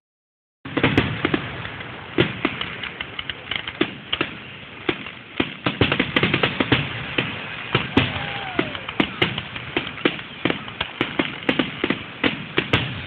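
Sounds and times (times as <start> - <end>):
fireworks bangs and crackles: 0.6 - 13.0.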